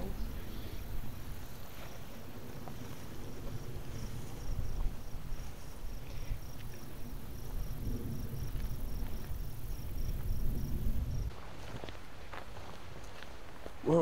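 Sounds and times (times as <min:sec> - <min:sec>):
wind buffeting microphone: 0:00.0 - 0:11.9
insect chirping: 0:00.0 - 0:13.9.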